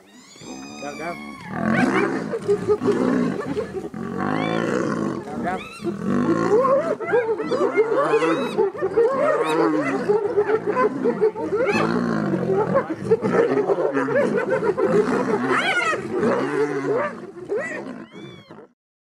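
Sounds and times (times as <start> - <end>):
hyenas calling and giggling: 0.0 - 18.8.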